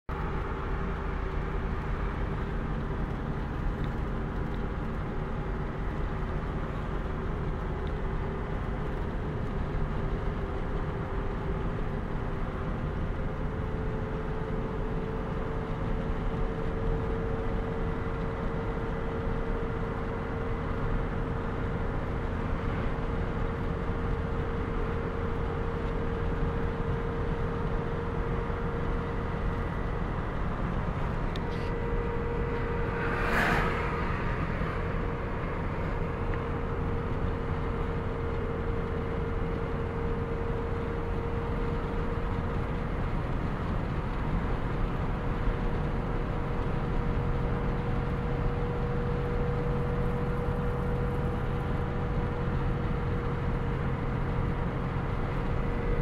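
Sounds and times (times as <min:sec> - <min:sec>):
engine drone: 0:00.1 - 0:56.0.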